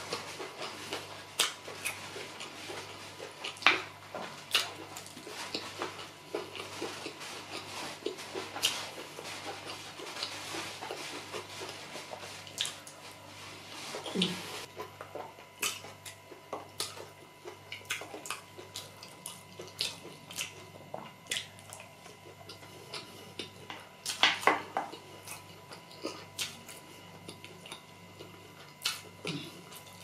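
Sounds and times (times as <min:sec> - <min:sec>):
chewing and lip smacks: 0:00.1 - 0:11.8, 0:14.0 - 0:24.2, 0:24.9 - 0:30.0.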